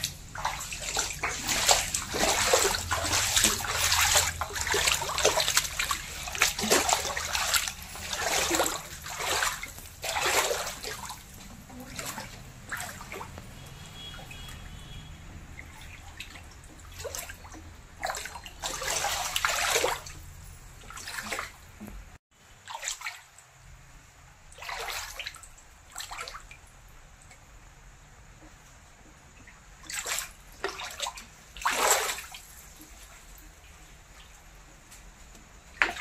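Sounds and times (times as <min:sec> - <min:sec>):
floodwater sloshing and splashing: 0:00.0 - 0:36.0.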